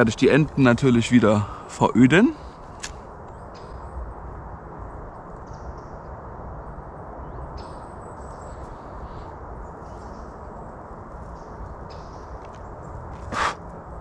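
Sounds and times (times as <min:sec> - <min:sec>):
low outdoor noise: 0:00.0 - 0:14.0.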